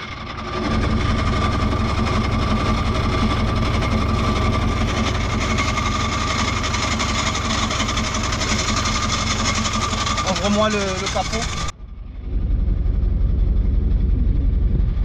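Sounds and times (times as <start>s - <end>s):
engine idling with exhaust whine: 0.0s - 15.0s.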